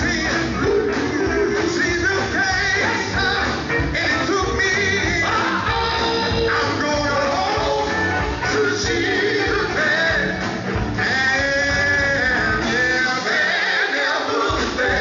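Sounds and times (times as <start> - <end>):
group of voices singing: 0.0 - 15.0
guitar-led band: 0.0 - 15.0.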